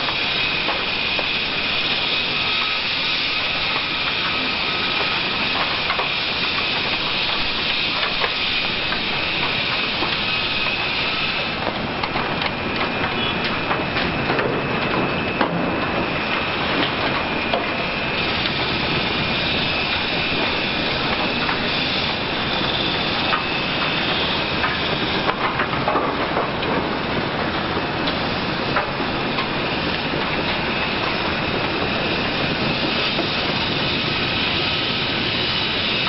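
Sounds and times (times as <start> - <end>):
excavator rumble and hiss: 0.0 - 36.0.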